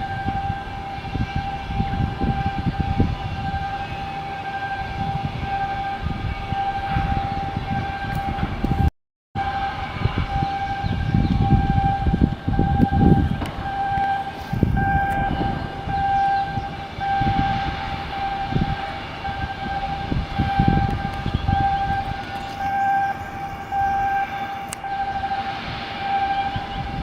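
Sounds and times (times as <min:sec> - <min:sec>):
low rumbling: 0:00.0 - 0:27.0
pulsing electronic warning tone: 0:00.0 - 0:27.0.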